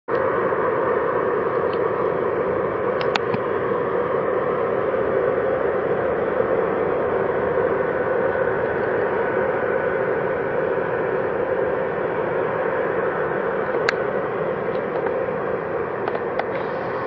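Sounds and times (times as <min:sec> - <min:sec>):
distant jet engines roaring: 0:00.1 - 0:17.0.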